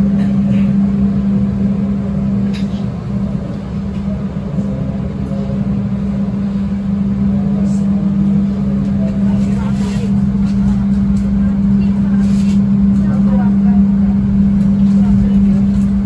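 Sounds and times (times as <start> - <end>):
train running with low rumble: 0.0 - 16.0.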